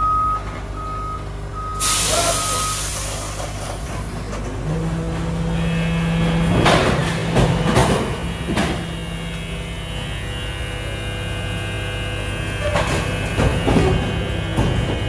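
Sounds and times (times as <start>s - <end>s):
electric truck humming: 0.0s - 15.0s.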